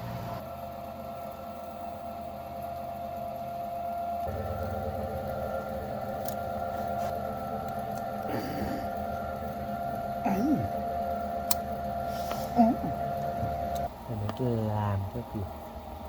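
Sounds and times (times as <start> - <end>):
small electric motor whining: 1.2 - 16.0.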